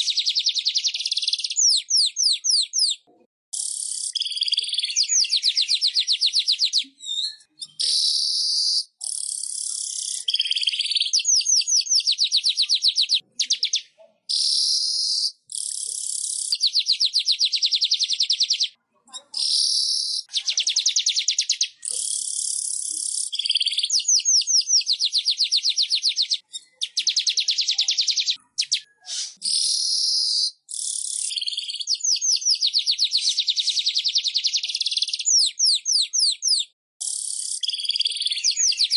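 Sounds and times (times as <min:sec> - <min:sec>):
weaver bird song: 0:00.0 - 0:38.9.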